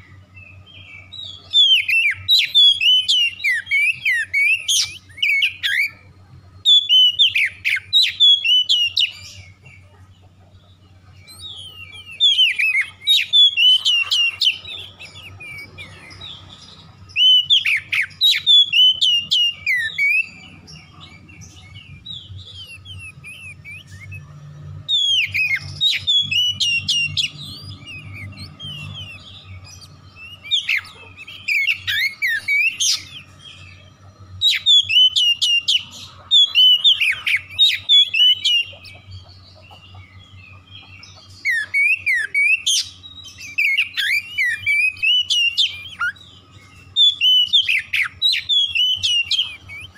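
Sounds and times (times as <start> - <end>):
bird singing whistled phrases: 0.0 - 9.8, 11.2 - 39.8, 41.2 - 49.9.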